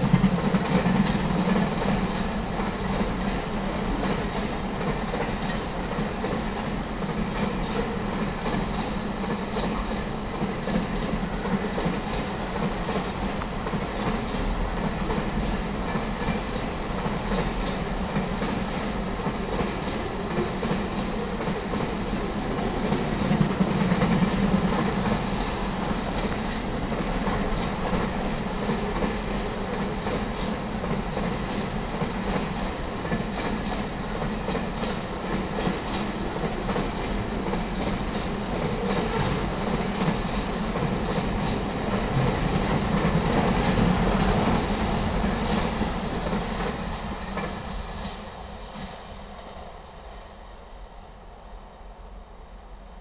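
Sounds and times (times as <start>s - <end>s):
train wheels rumbling on rails: 0.0s - 51.8s.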